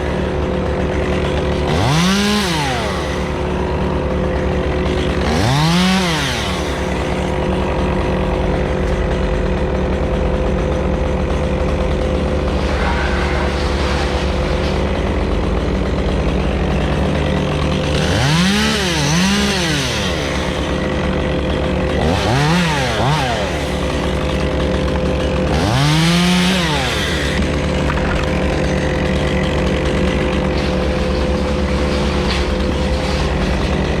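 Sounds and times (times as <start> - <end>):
chainsaw revving: 0.0 - 34.0.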